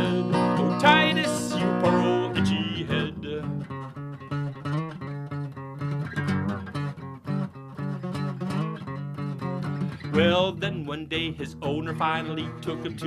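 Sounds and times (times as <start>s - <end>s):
acoustic guitar picking and strumming: 0.0s - 13.0s.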